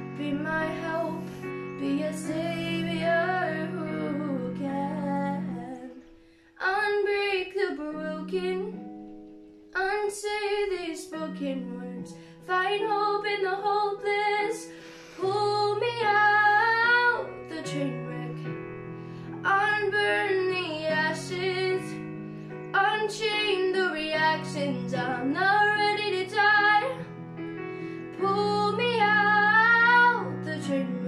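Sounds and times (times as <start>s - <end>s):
girl singing a slow ballad: 0.0s - 31.0s.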